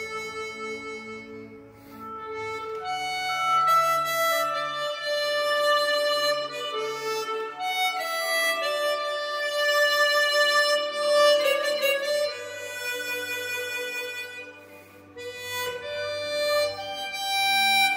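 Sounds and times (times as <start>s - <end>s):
harmonica playing slow melody: 0.0s - 17.9s.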